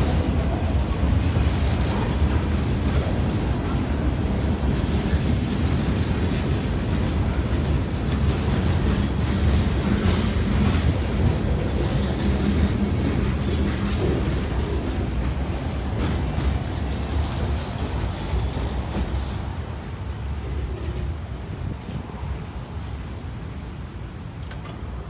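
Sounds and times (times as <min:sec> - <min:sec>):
train clanks: 0:00.0 - 0:25.0
train wheels rumbling on rail: 0:00.0 - 0:25.0.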